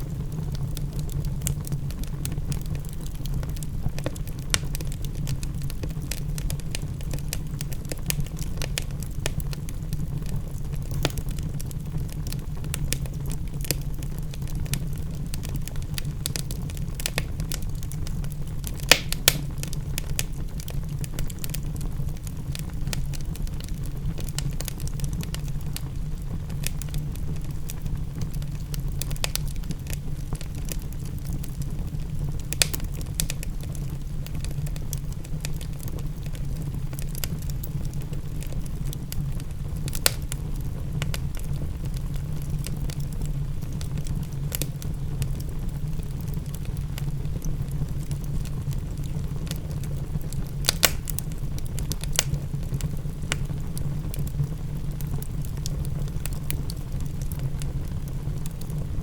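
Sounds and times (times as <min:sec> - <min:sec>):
wood fire crackling: 0:00.0 - 0:59.0
fire pops: 0:00.1 - 0:45.5, 0:46.2 - 0:59.0.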